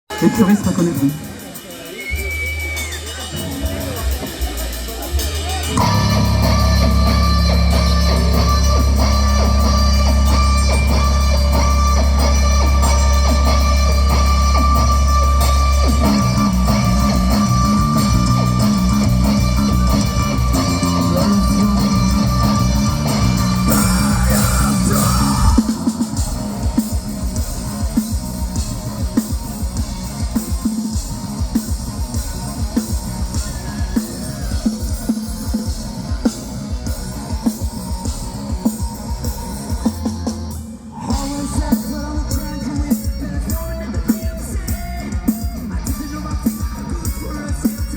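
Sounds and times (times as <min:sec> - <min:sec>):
metal band playing live: 0:00.0 - 0:47.9.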